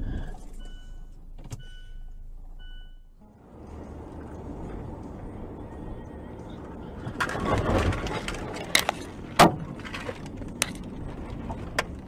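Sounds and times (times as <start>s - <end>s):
car road noise: 0.0s - 12.0s.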